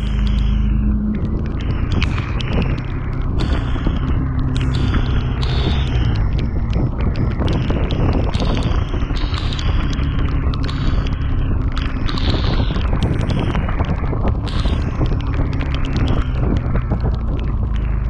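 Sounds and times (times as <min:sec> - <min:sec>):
motorcycle engine running: 0:00.0 - 0:18.0
rushing wind noise: 0:00.0 - 0:18.0
sharp ticks: 0:00.0 - 0:18.0.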